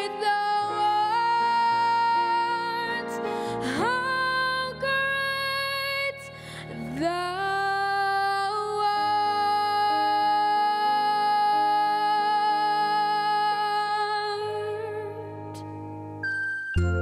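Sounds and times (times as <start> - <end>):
gentle accompaniment: 0.0 - 17.0.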